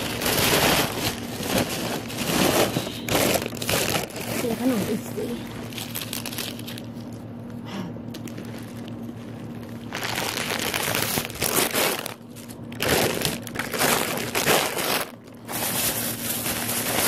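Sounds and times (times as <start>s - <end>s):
plastic bag rustling and crinkling: 0.0s - 7.4s, 8.1s - 17.0s.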